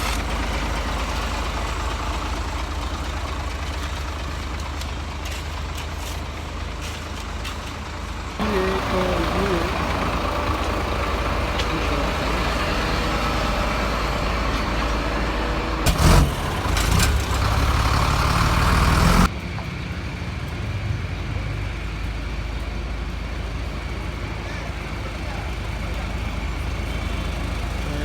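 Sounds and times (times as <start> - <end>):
road noise: 0.0 - 28.0
vehicle engine running: 0.0 - 28.0.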